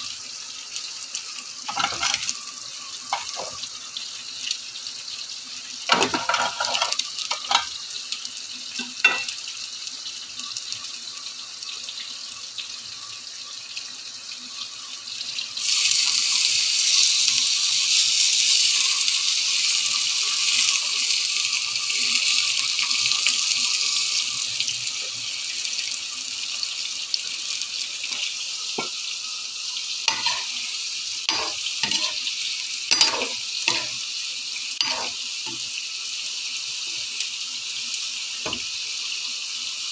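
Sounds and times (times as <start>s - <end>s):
food sizzling on grill pan: 0.0s - 39.9s
potatoes deep-frying in oil: 0.0s - 39.9s.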